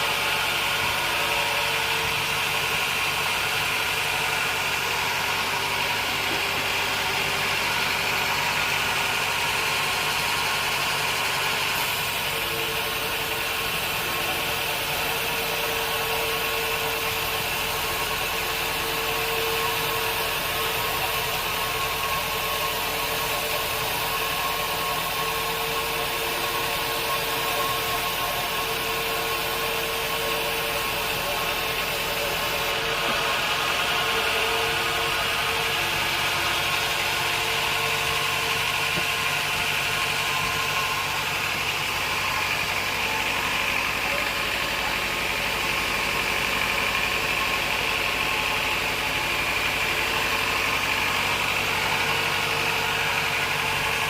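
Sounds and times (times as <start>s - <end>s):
band sawmill droning: 0.0s - 54.0s.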